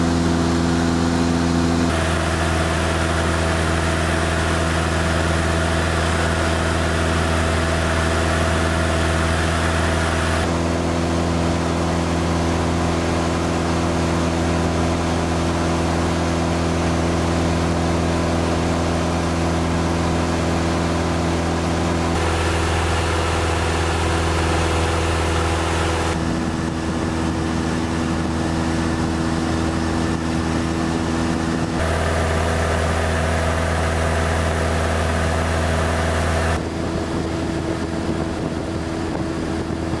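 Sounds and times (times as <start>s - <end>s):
airplane engine and propeller droning: 0.0s - 40.0s.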